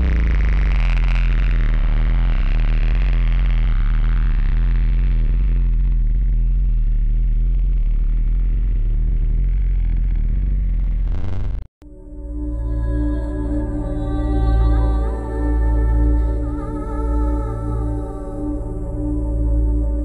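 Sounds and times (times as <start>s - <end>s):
electronic drone: 0.0s - 20.0s.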